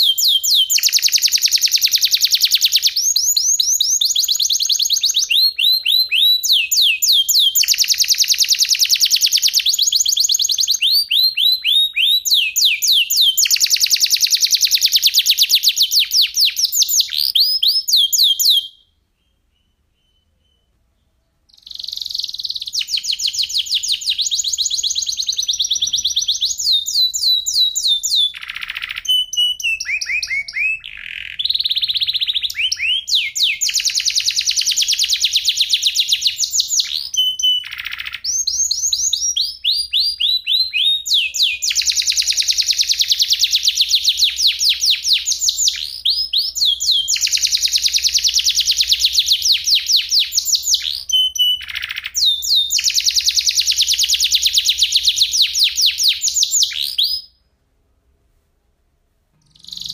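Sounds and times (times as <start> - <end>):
canary singing: 0.0 - 57.4, 59.4 - 59.9.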